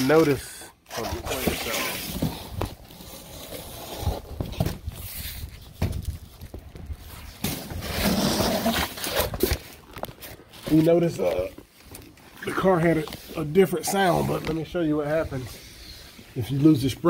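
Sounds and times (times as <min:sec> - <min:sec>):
cardboard scraping on concrete: 0:00.0 - 0:11.5, 0:12.5 - 0:16.2.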